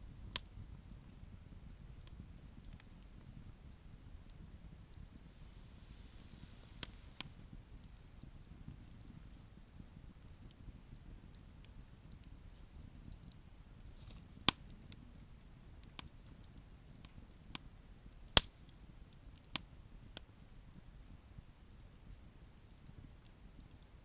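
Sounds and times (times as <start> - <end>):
faint low rumble: 0.0 - 24.0
wood fire crackling: 0.0 - 24.0.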